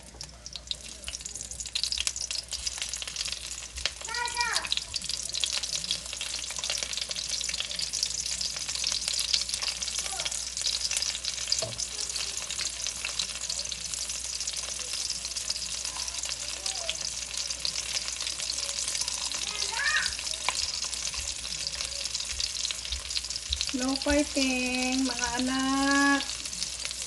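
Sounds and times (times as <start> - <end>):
pancakes sizzling in oil: 0.0 - 27.0.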